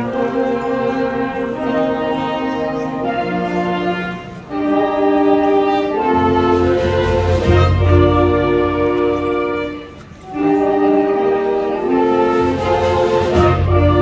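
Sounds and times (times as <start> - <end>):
orchestral strings and brass chords: 0.0 - 14.0.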